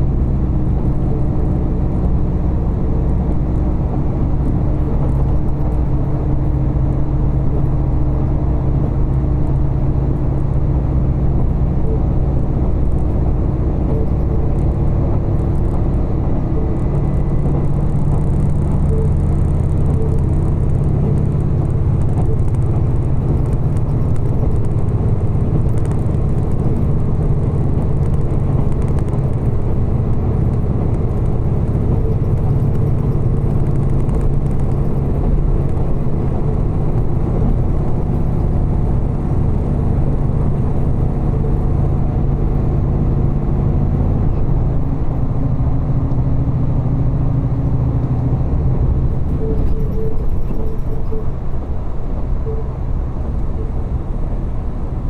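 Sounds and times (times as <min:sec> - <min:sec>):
low engine drone: 0:00.0 - 0:55.0
train rumble: 0:00.0 - 0:55.0.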